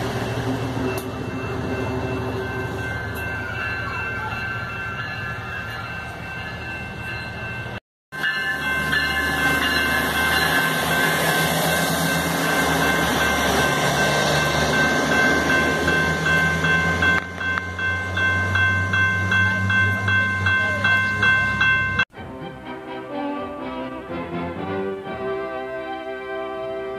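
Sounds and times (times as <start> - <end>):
diesel train engine drone: 0.0 - 26.9
level-crossing bell ringing: 0.2 - 22.1.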